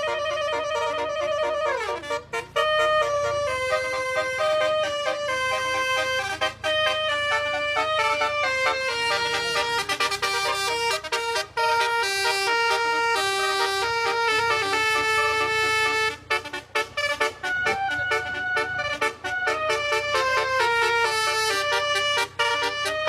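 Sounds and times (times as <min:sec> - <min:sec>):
horn-like background music: 0:00.0 - 0:23.0
reedy lead melody: 0:00.0 - 0:23.0
rhythmic accompaniment: 0:00.0 - 0:23.0.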